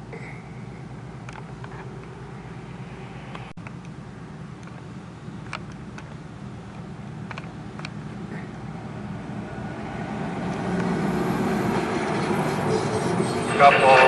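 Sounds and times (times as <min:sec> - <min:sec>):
steady low rumble: 0:00.0 - 0:12.7
vehicles driving over crossing: 0:00.0 - 0:14.0.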